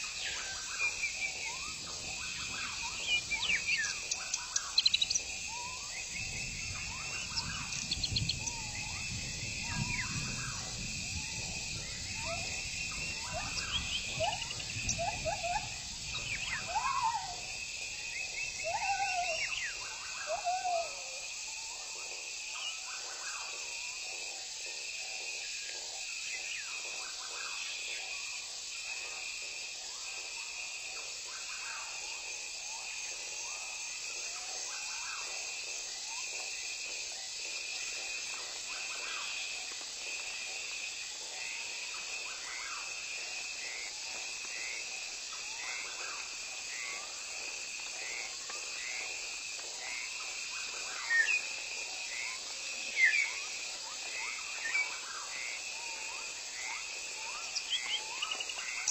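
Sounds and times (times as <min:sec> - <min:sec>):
insects chirping: 0:00.0 - 0:58.9.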